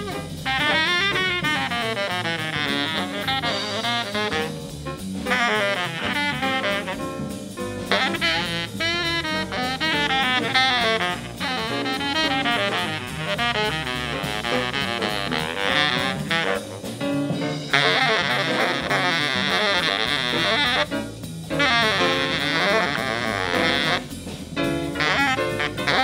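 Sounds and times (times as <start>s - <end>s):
small jazz combo playing: 0.0s - 26.0s.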